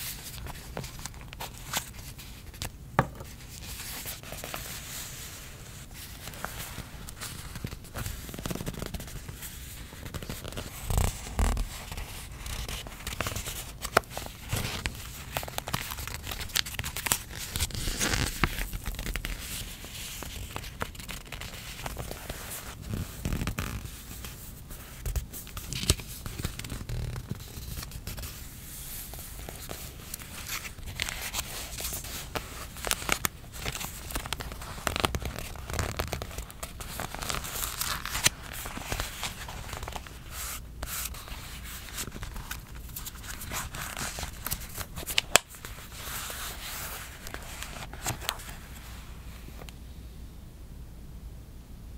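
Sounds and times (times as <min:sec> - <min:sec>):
fingertips rubbing paper pages: 0:03.3 - 0:48.6.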